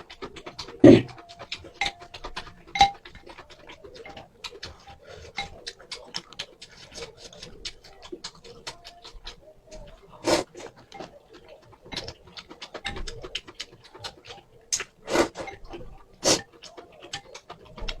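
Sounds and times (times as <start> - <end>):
wet chewing clicks: 0.0 - 18.0.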